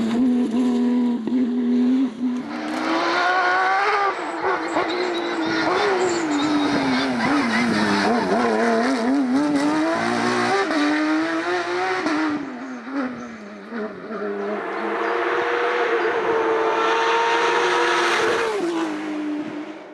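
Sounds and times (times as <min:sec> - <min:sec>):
car engine at high revs: 0:00.0 - 0:19.9.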